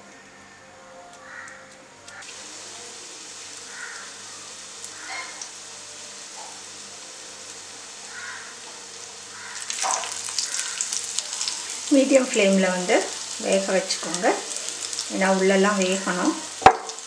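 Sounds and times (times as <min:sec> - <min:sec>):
food sizzling in oil: 0:02.1 - 0:17.0.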